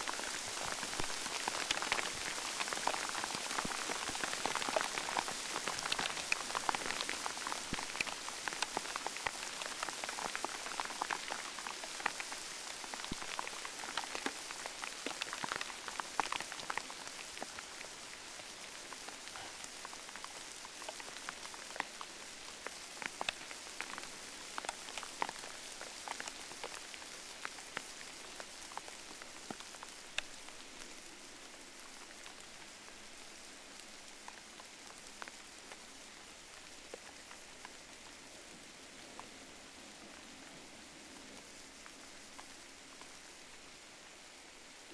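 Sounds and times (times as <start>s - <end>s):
close raindrop ticks: 0.0s - 43.9s
steady rain falling: 0.0s - 44.9s.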